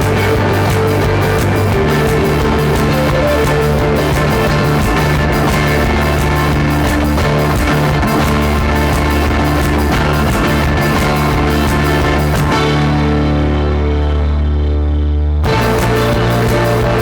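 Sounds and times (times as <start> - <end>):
steady drum beat: 0.0 - 12.9, 15.5 - 17.0
rock band playing: 0.0 - 14.2, 15.5 - 17.0
electric guitar: 0.0 - 17.0.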